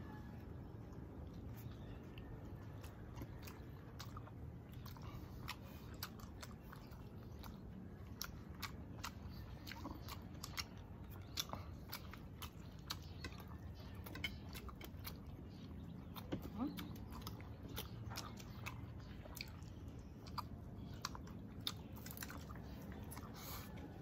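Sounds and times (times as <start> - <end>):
person chewing food: 0.1 - 24.0.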